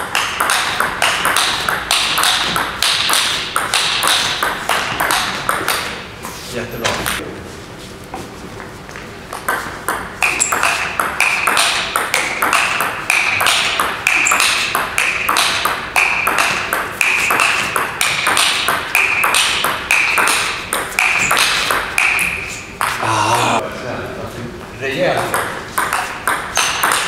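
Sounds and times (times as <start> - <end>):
table tennis rally: 0.0 - 7.2, 8.2 - 23.7, 24.6 - 27.0.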